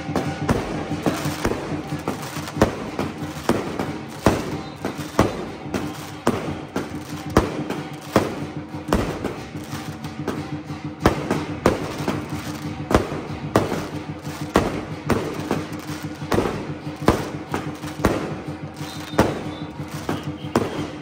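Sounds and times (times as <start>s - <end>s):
background music: 0.0s - 21.0s
fireworks banging: 0.0s - 21.0s.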